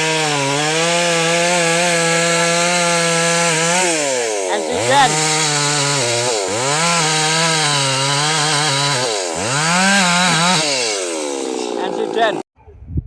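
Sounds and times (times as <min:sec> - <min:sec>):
chainsaw cutting: 0:00.0 - 0:12.5.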